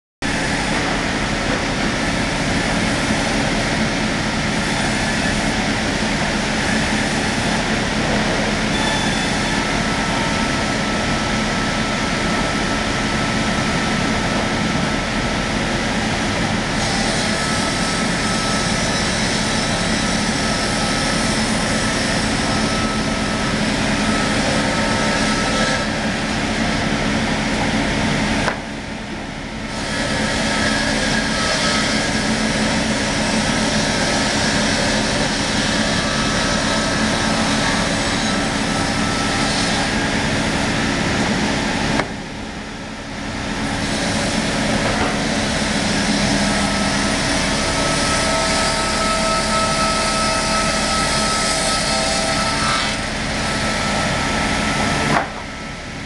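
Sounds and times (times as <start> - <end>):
sawing machine cutting log: 0.3 - 56.0.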